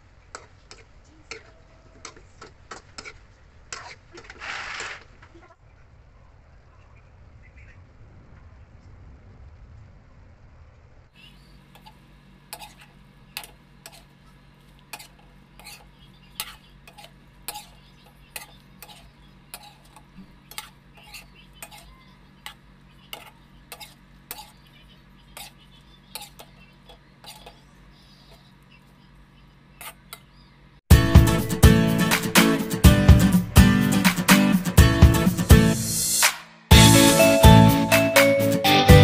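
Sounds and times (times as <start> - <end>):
steady low hum: 6.1 - 37.8.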